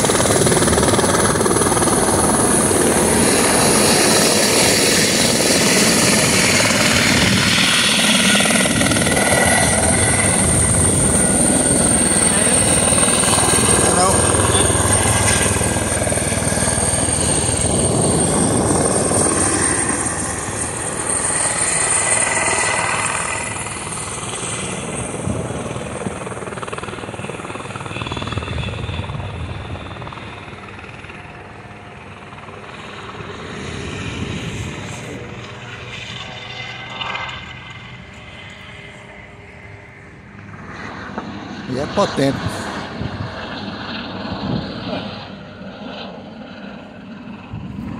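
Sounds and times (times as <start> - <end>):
helicopter rotor and turbine noise: 0.0 - 47.9
high turbine whine: 0.0 - 47.9.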